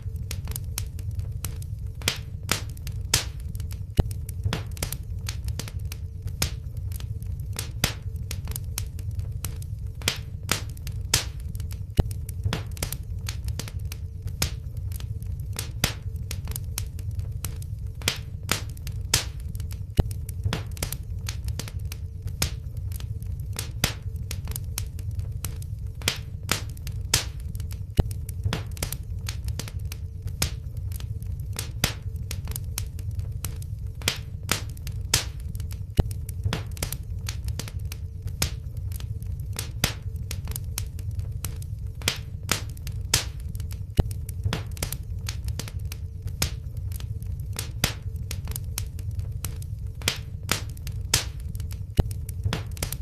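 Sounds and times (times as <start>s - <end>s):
faint steady hum: 0.0s - 53.0s
low rumble of flames: 0.0s - 53.0s
sharp pops of fire: 0.0s - 53.0s
wood fire crackling: 0.0s - 53.0s.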